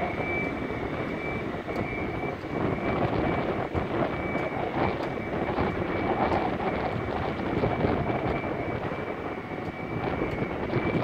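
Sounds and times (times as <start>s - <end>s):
boat hoist engine rumbling: 0.0s - 11.0s.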